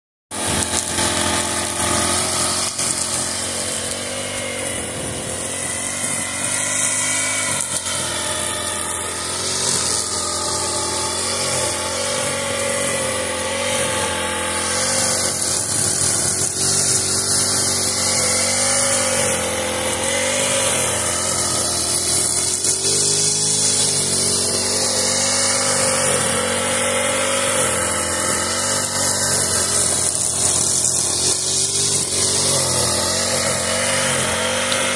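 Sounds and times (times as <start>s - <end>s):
brush cutter engine cutting grass: 0.3s - 34.9s.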